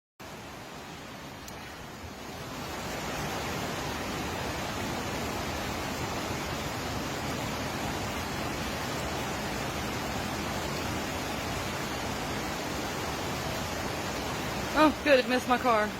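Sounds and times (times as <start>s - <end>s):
storm wind and water rushing: 0.2s - 15.9s.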